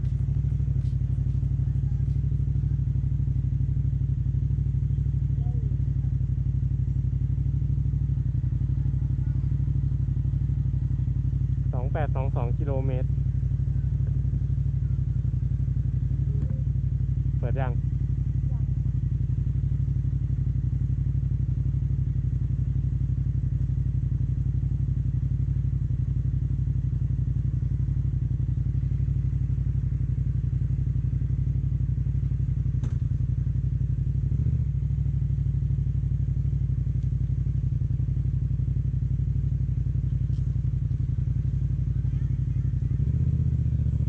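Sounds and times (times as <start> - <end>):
motorcycle engine running steadily: 0.0 - 44.0.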